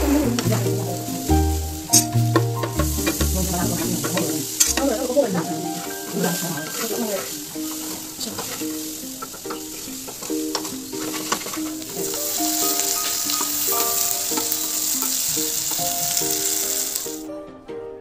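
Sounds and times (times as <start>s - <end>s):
vegetables sizzling in oil: 0.0s - 17.3s
light plucked background music: 0.0s - 18.0s.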